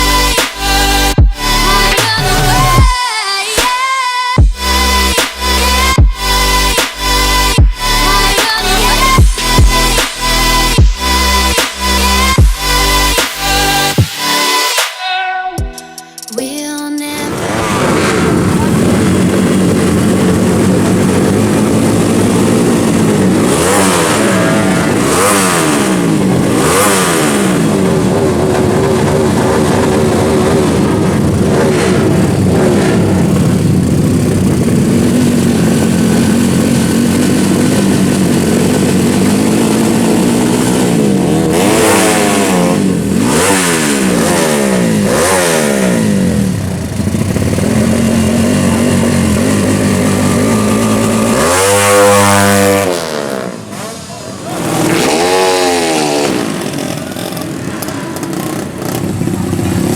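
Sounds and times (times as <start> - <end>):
motorcycle engines revving: 0.0 - 3.8, 4.4 - 14.8, 17.1 - 59.9.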